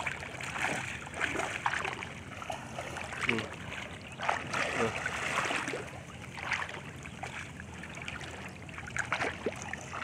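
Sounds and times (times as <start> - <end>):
shallow water splashing: 0.0 - 10.0.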